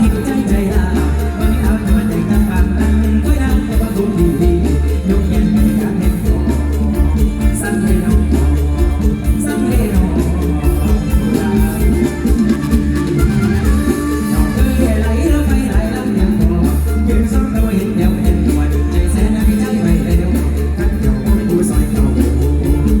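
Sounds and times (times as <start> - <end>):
amplified live band music: 0.0 - 23.0
heavy bass line: 0.0 - 23.0
steady drum beat: 0.0 - 23.0.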